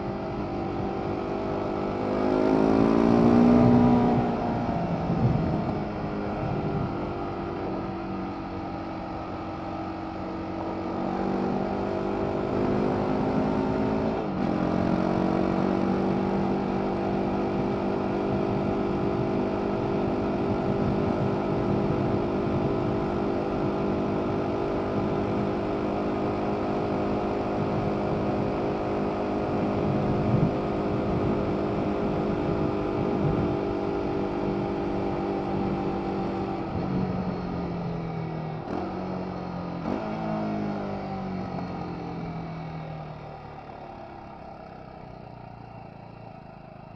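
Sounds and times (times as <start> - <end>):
motorcycle engine: 0.0 - 46.9
wind and road noise: 0.0 - 46.9.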